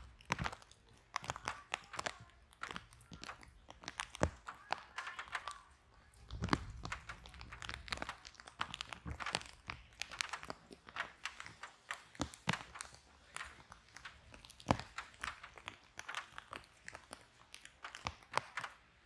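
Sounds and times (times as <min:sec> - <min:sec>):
logs crackling and popping: 0:00.0 - 0:19.0.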